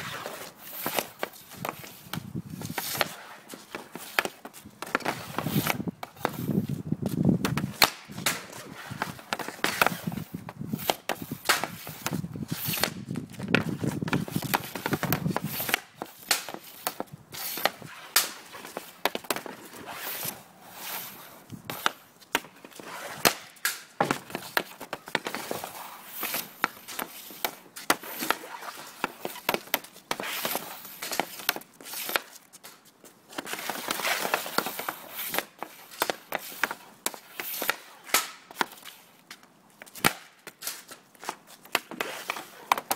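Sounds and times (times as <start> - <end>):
hockey sticks striking pucks: 0.0 - 42.9
pucks hitting net: 0.0 - 42.9
pucks clattering on asphalt: 0.1 - 19.8, 21.0 - 42.9.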